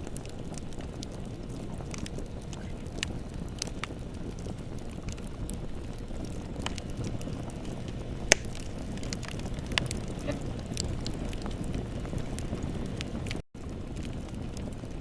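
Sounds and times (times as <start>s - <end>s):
bonfire low rush: 0.0s - 15.0s
fire crackles and pops: 0.0s - 15.0s.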